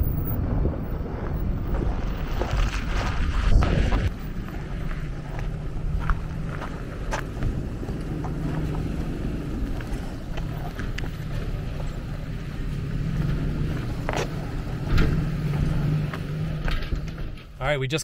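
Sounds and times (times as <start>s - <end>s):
engine low hum: 0.0s - 17.6s.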